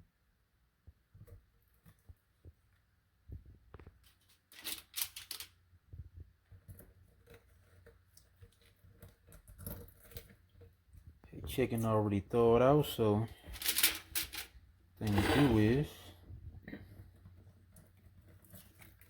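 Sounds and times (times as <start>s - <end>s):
rustling: 1.3s - 11.4s, 13.0s - 19.0s.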